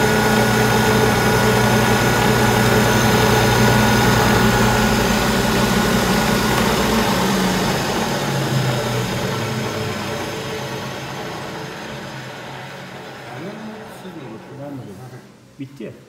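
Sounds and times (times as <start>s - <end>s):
grinding mill motor hum: 0.0s - 15.4s.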